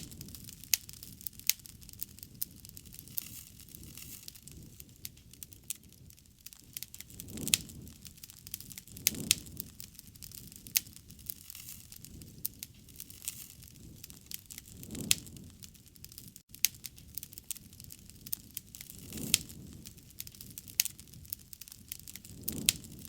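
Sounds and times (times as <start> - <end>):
campfire crackling and popping: 0.0 - 23.0
low rush of fire: 0.0 - 23.0.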